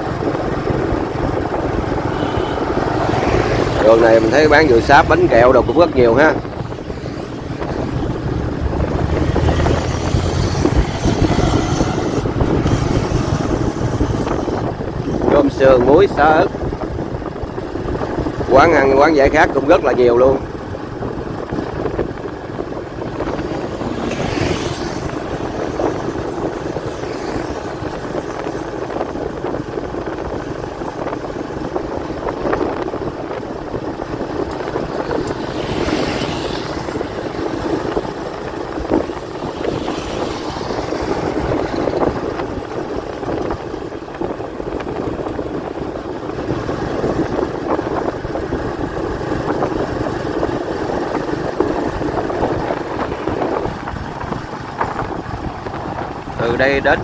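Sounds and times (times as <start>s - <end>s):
passing vehicle whoosh: 0.0s - 57.0s
road and wind noise: 0.0s - 57.0s.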